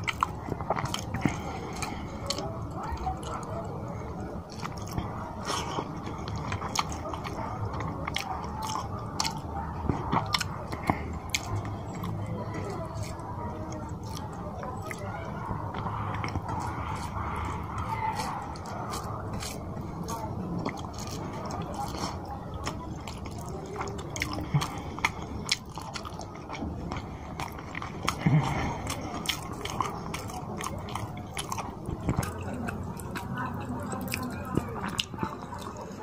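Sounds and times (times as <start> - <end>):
wet chewing and smacking: 0.0 - 36.0.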